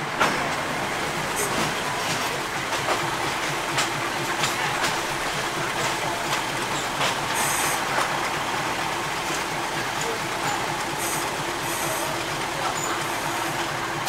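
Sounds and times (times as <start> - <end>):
diesel railcar rumbling: 0.0 - 14.0
wheels clicking over rails: 0.0 - 14.0.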